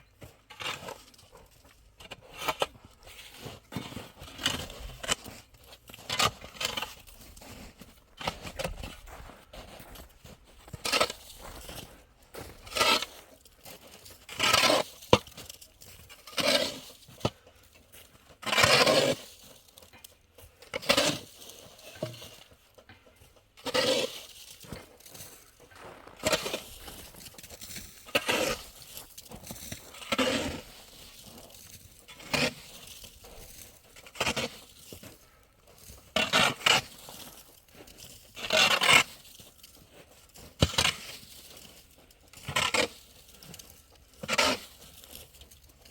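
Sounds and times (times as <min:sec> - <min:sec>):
shovel scraping and crunching: 0:00.0 - 0:45.9.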